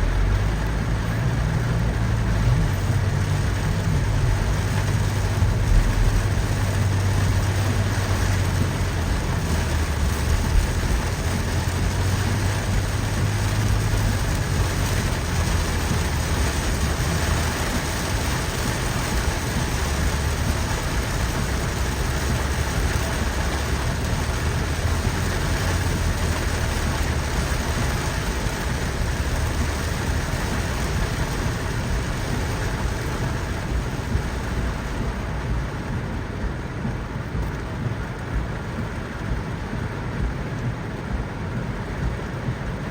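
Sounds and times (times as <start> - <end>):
low continuous rumble: 0.0 - 42.9
steady rain falling: 0.0 - 42.9.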